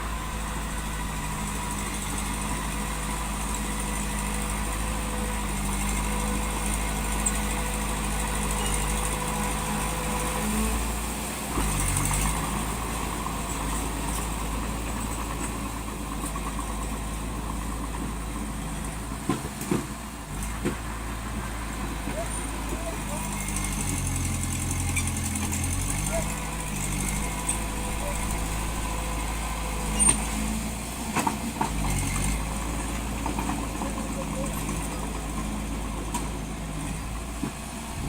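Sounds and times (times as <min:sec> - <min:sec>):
heavy machinery diesel engine running: 0:00.0 - 0:38.0.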